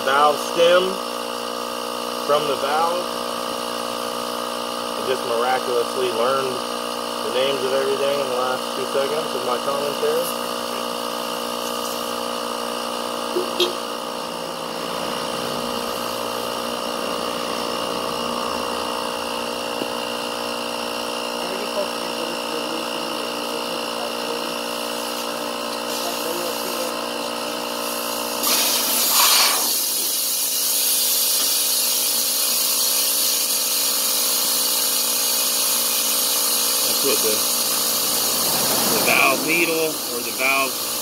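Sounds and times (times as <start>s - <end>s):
tire inflator motor whining: 0.0s - 41.0s.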